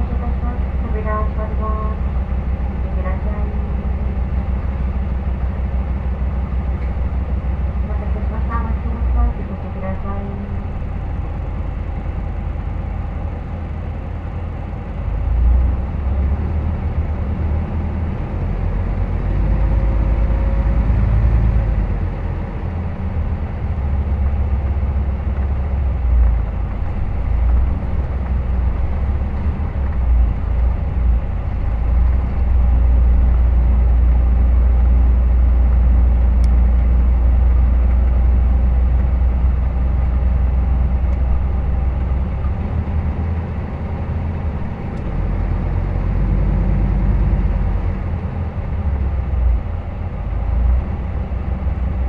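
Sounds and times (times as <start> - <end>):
diesel bus engine drone: 0.0 - 52.0
road noise: 0.0 - 52.0.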